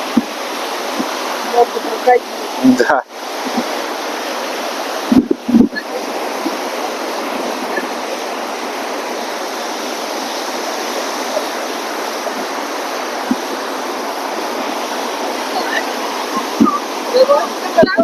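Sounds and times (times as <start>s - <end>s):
stormy sea surf: 0.0s - 18.0s
strong wind: 0.0s - 18.0s.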